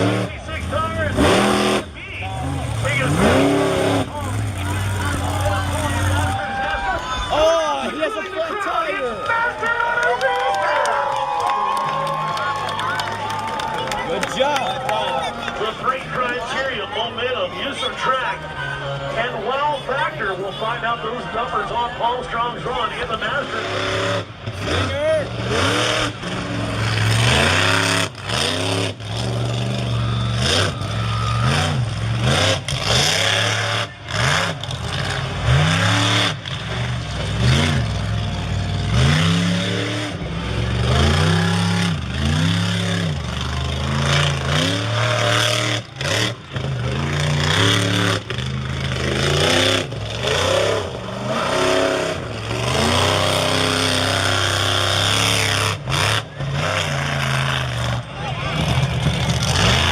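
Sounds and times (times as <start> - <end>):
truck engine revving: 0.0 - 10.0, 11.8 - 59.9.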